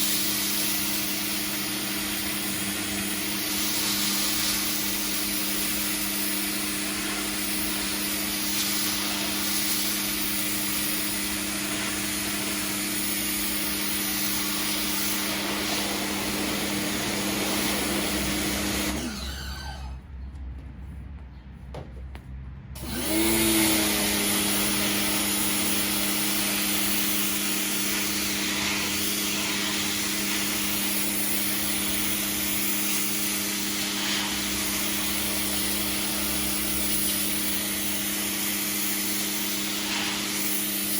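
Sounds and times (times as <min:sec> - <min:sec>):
spray jet hissing on concrete: 0:00.0 - 0:19.5, 0:24.1 - 0:40.9
pressure washer motor hum: 0:00.0 - 0:20.0, 0:22.8 - 0:40.9.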